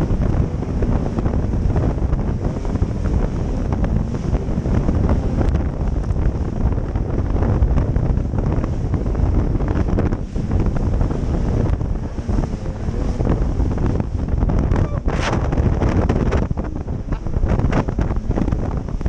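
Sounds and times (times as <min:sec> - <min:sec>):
hull slapping waves: 0:00.0 - 0:19.0
wind buffeting microphone: 0:00.0 - 0:19.0.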